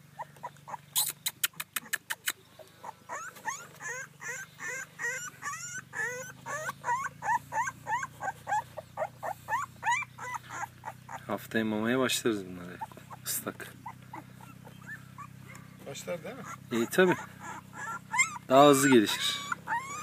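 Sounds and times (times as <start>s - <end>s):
puppies whimpering and squeaking: 0.0s - 11.5s, 12.4s - 20.0s.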